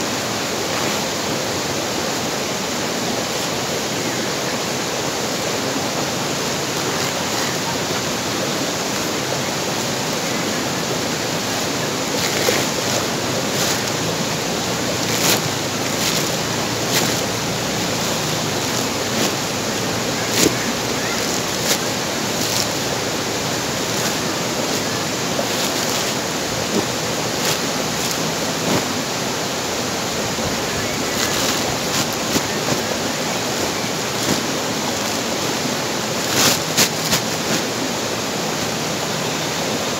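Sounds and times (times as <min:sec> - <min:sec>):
steady rushing noise: 0:00.0 - 0:39.9
plastic sacks crackling: 0:00.6 - 0:01.3, 0:06.6 - 0:38.7.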